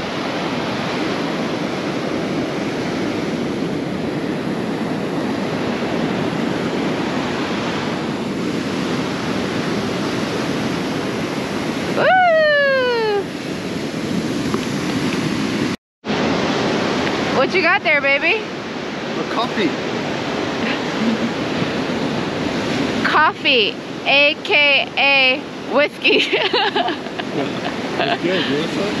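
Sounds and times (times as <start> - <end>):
surf breaking on the beach: 0.0 - 29.0.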